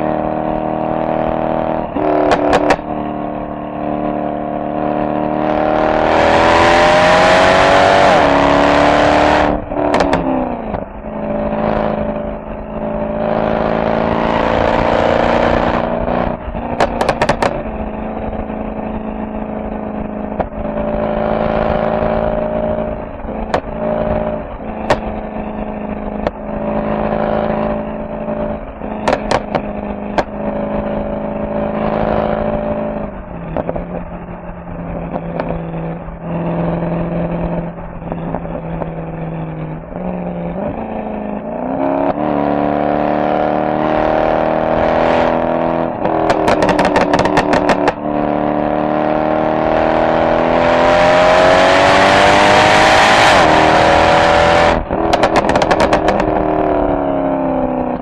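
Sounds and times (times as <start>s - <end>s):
car engine exhaust while driving: 0.0s - 58.0s
exhaust crackles: 6.3s - 42.3s, 44.2s - 48.0s, 51.2s - 58.0s.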